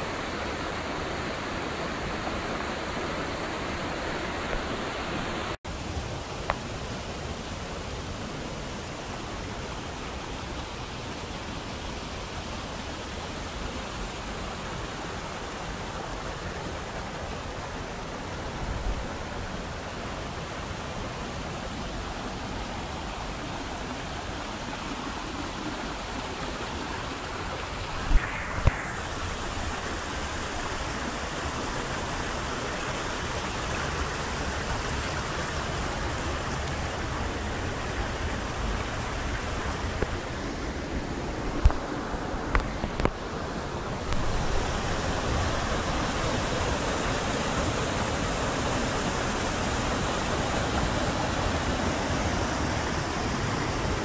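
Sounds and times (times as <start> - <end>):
mountain stream rushing over rocks: 0.0 - 54.0.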